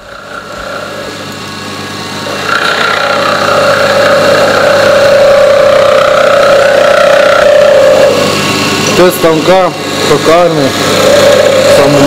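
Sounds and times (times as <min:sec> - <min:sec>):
lathe motor whine: 0:00.0 - 0:12.0.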